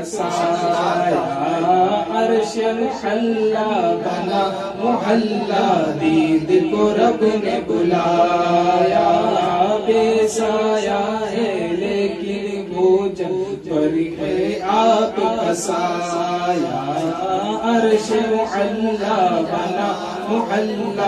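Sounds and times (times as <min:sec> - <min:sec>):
man singing into a microphone: 0:00.0 - 0:21.0.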